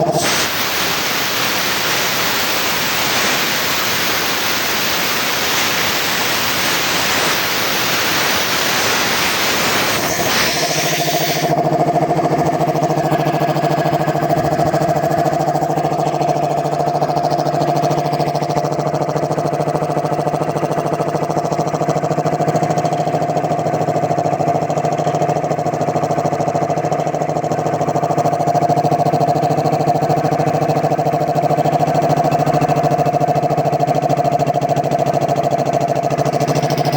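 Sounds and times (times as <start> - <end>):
air compressor running: 0.0 - 36.9.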